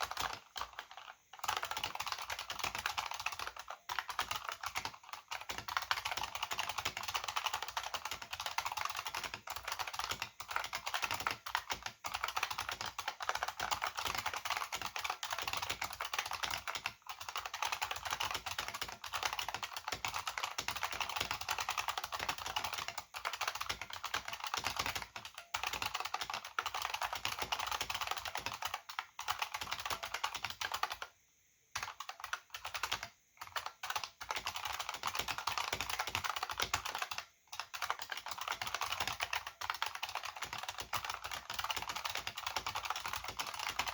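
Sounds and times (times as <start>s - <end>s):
fast typing on clicky keyboard: 0.0s - 43.9s.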